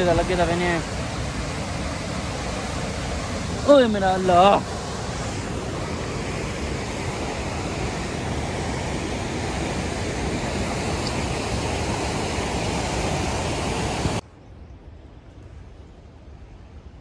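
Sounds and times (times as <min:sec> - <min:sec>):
river rushing over rocks: 0:00.0 - 0:14.2.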